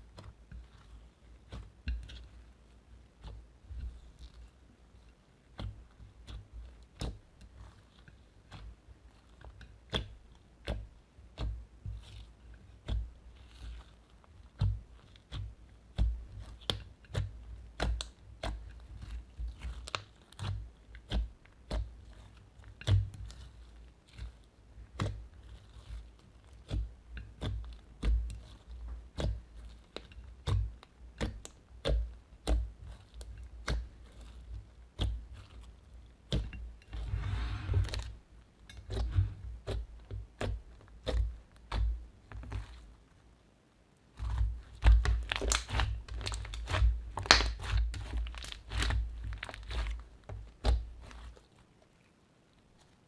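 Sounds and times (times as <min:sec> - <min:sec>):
slime kneaded with sticky pops: 0:00.0 - 0:53.0.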